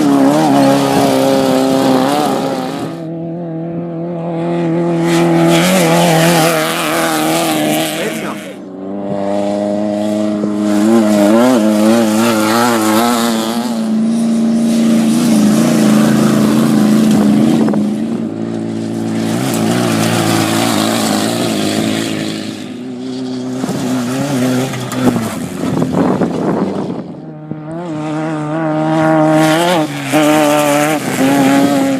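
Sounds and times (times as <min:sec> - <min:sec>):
race vehicle engines revving: 0:00.0 - 0:31.9.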